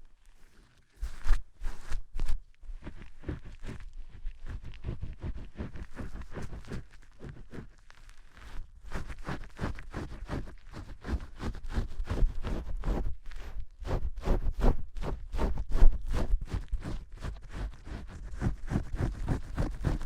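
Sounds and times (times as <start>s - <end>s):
fingers scrubbing lathered hair: 2.8s - 13.3s, 14.1s - 20.0s.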